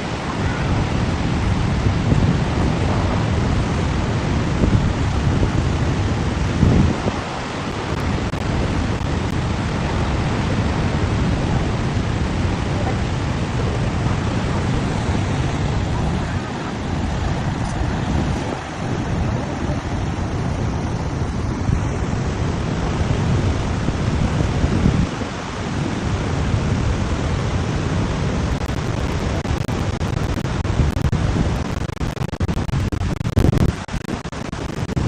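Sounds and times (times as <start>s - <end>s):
waterfall roaring: 0.0s - 35.0s
wind buffeting microphone: 0.0s - 35.0s.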